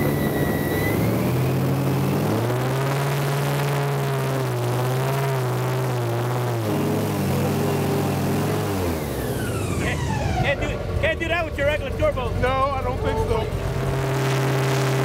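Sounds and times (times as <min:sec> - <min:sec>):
airboat engine and propeller: 0:00.0 - 0:15.0.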